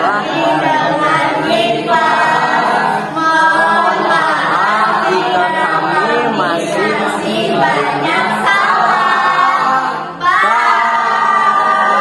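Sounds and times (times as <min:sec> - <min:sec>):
group singing unaccompanied: 0:00.0 - 0:12.0.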